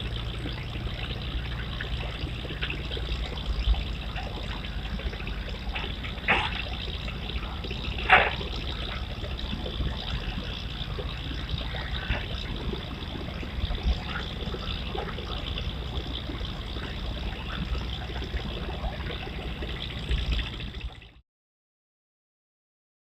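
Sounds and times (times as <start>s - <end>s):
low rumble: 0.0s - 21.2s
river water trickling: 0.0s - 21.2s
small water splashes: 0.0s - 21.2s.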